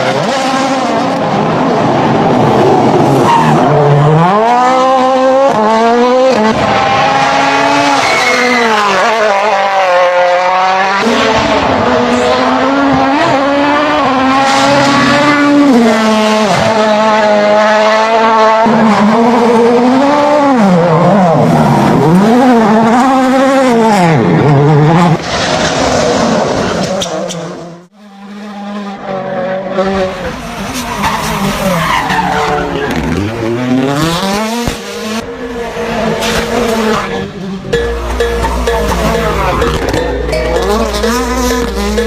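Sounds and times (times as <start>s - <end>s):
car engine revving hard: 0.0s - 26.7s, 32.6s - 42.0s.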